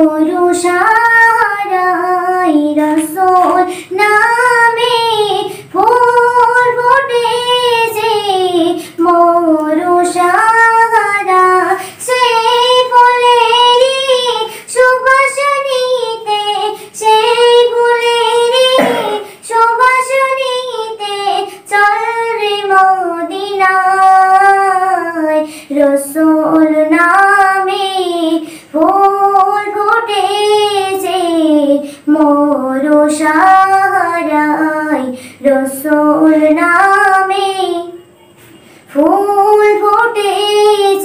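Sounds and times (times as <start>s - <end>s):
girl singing unaccompanied: 0.0s - 41.0s.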